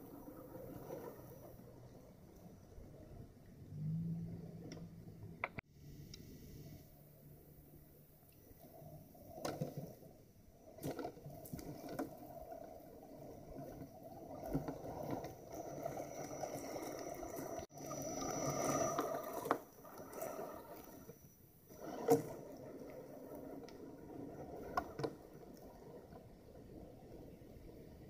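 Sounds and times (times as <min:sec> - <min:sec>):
electric drivetrain whine: 0:00.0 - 0:28.0.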